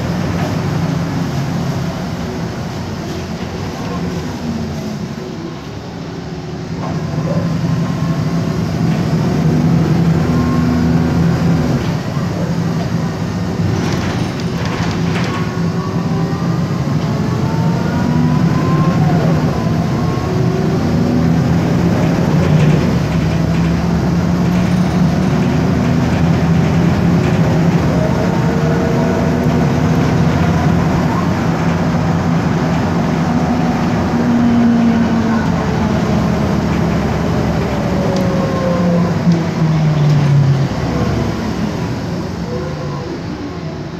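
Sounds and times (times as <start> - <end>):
bus engine humming: 0.0 - 43.9.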